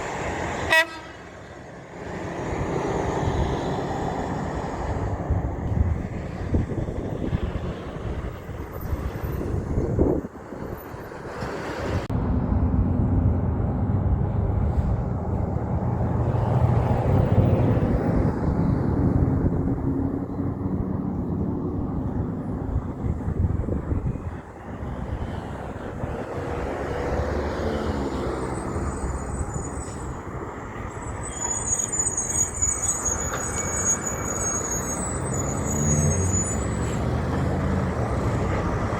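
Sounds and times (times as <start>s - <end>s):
truck engine passing by: 0.0s - 38.9s.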